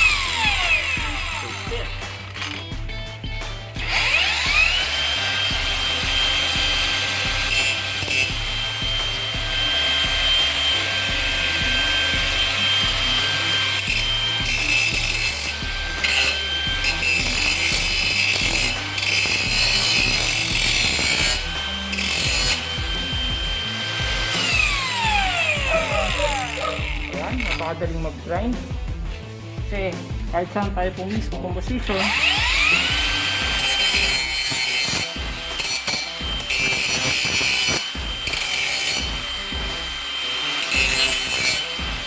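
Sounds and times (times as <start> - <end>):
angle grinder whining: 0.0 - 28.0, 31.8 - 42.0
grinder rasping on workpiece: 3.8 - 27.7, 31.9 - 42.0.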